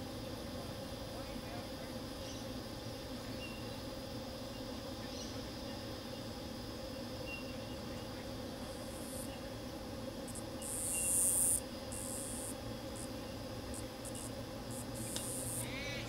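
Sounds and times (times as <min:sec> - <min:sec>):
low outdoor hum: 0:00.0 - 0:16.0
high-pitched insect buzzing: 0:01.2 - 0:16.0.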